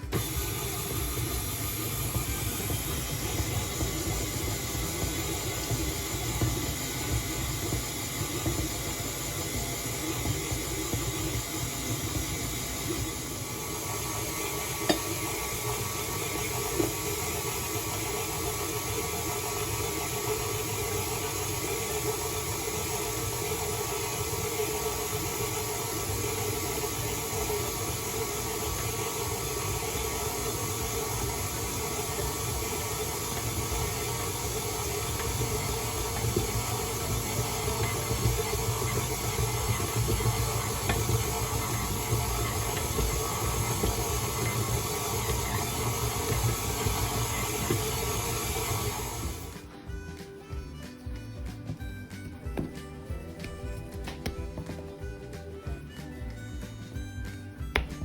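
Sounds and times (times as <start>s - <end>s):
mechanical whir and hiss: 0.0s - 49.6s.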